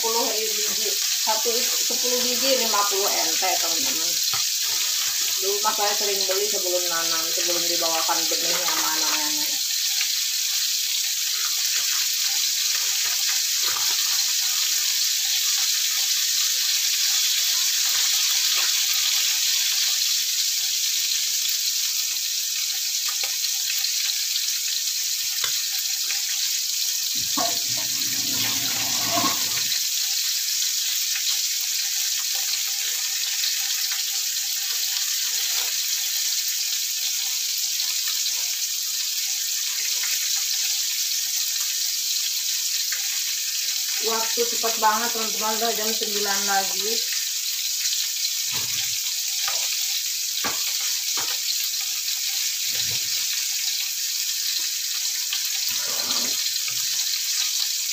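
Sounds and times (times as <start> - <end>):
fish frying in hot oil: 0.0 - 57.9
oil crackling and popping: 0.0 - 57.9.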